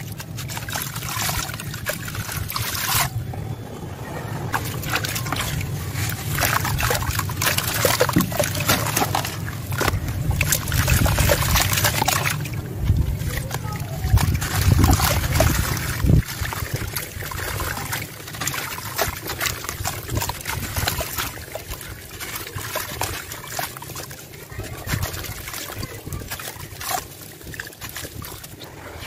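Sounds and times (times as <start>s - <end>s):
grit and water trickling into tub: 0.0s - 3.2s, 4.3s - 29.0s
water sloshing and splashing: 0.0s - 29.0s.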